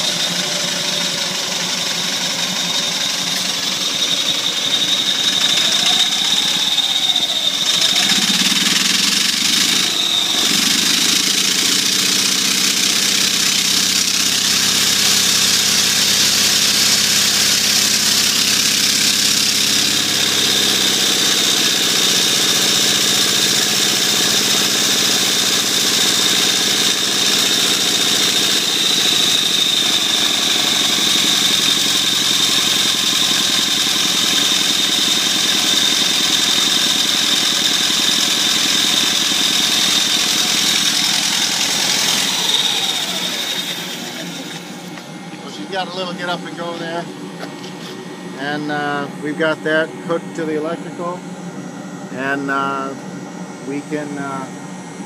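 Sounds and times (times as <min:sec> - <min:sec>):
high whine: 0:00.0 - 0:21.8, 0:28.2 - 0:55.0
steam engine running: 0:00.0 - 0:51.2
exhaust steam hissing: 0:00.0 - 0:54.4.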